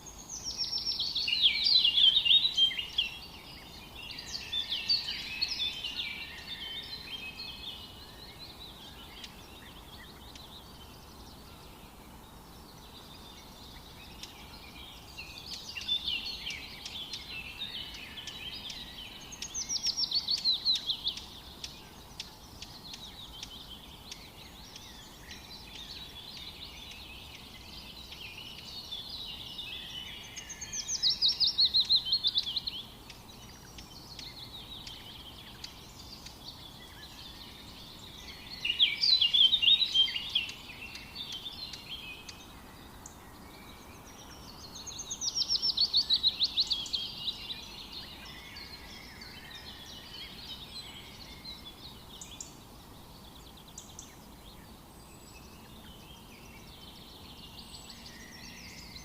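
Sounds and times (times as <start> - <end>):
faint steady background hiss: 0.0 - 59.0
soft bird chirps: 0.0 - 59.0.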